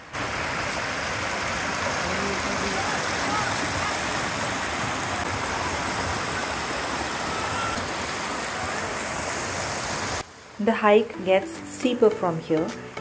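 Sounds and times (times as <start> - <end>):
stream rushing over stones: 0.0 - 10.6.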